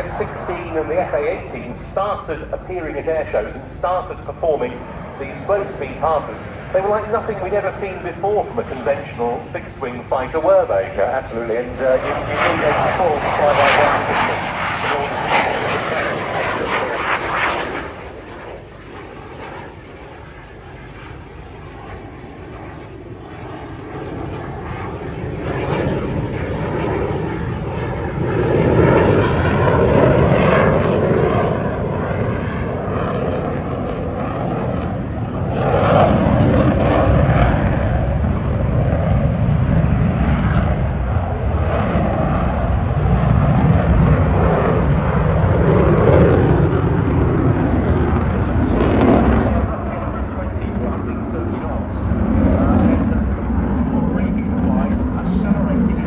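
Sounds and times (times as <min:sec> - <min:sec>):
fighter jet flying by: 0:00.0 - 0:56.0.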